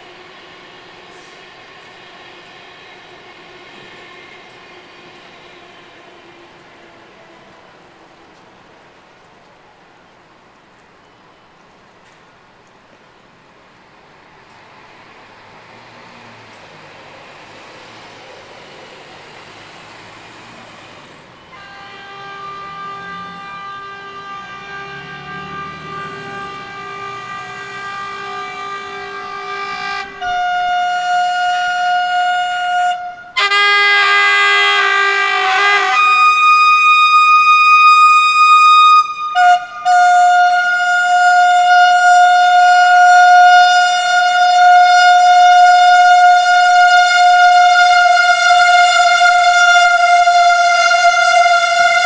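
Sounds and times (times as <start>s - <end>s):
train horns blasting: 0.0s - 8.7s, 16.0s - 52.0s.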